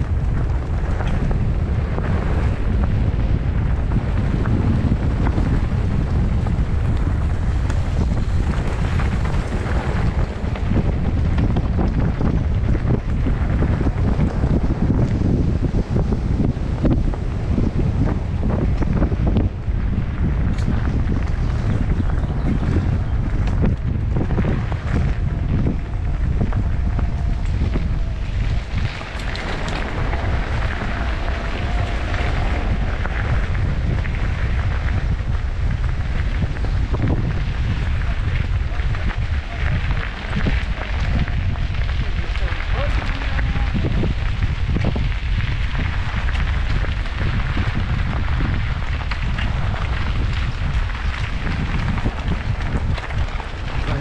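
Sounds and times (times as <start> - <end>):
strong wind buffeting microphone: 0.0 - 54.0.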